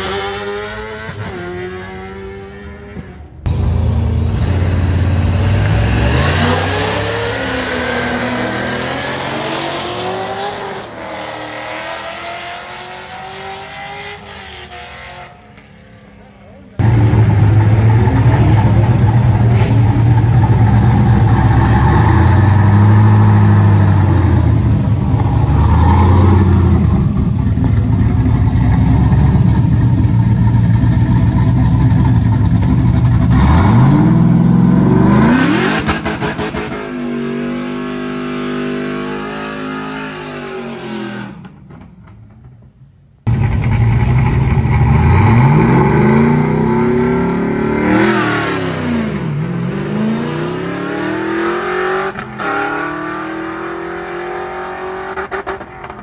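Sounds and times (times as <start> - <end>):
drag racing car engine revving: 0.0 - 15.4, 16.8 - 41.4, 43.3 - 56.0.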